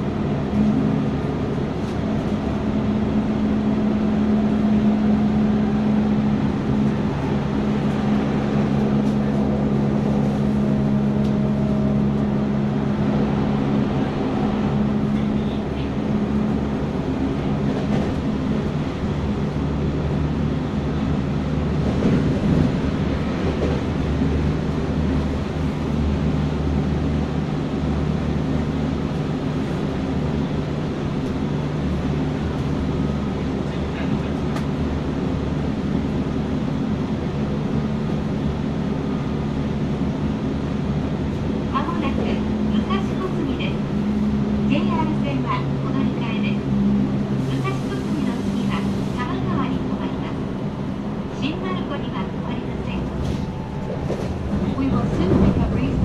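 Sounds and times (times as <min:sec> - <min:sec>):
train motor hum: 0:00.0 - 0:56.0
wheel and rail rumble: 0:00.0 - 0:56.0.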